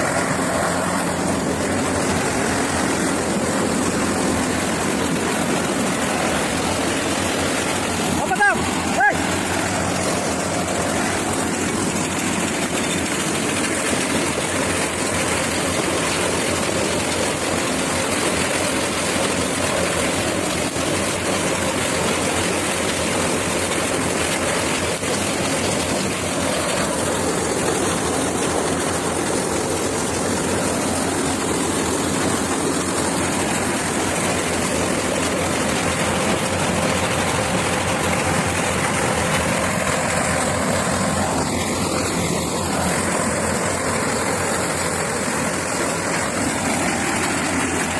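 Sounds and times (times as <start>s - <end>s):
harvester engine droning: 0.0s - 47.9s.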